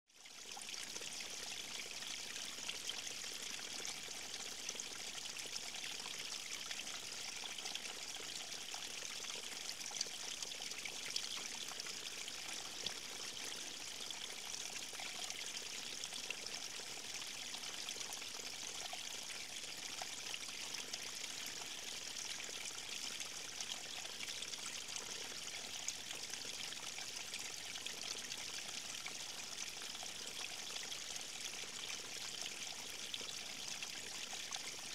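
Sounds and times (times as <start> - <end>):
stream flowing over stones: 0.2 - 34.9.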